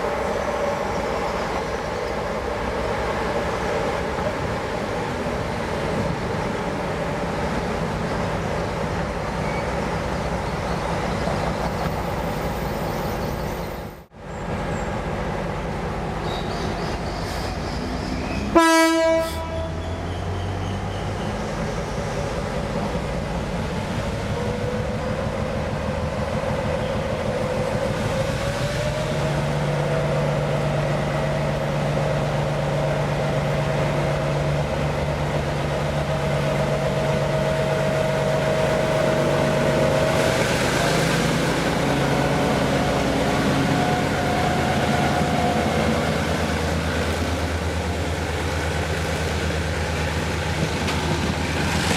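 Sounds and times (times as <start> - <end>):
diesel locomotive engine drone: 0.0 - 51.9.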